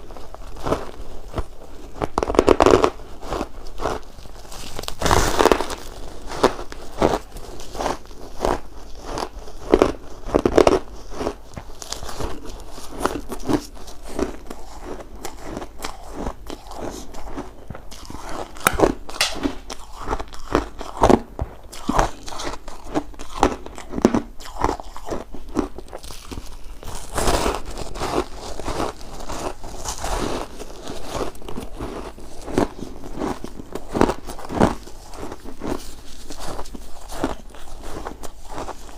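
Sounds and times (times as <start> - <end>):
ice crunching while chewed: 0.0 - 38.9.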